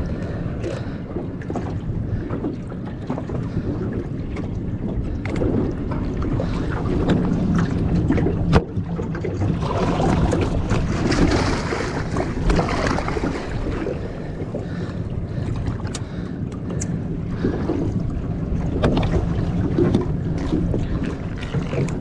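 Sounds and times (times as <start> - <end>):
water washing against boat hull: 0.0 - 22.0
wind buffeting microphone: 0.0 - 22.0.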